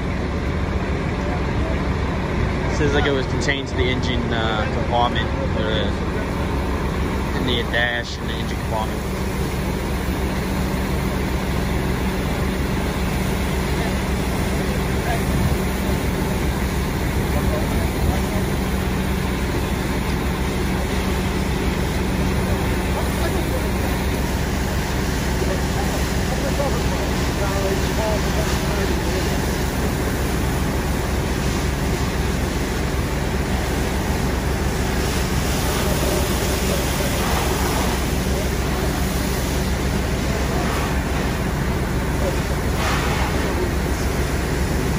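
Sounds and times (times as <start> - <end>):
diesel engine rumbling: 0.0 - 44.9
fire hose spraying water: 0.0 - 44.9.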